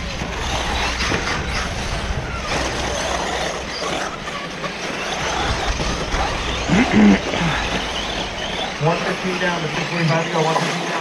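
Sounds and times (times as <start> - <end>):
rc car motors whining: 0.0 - 11.0.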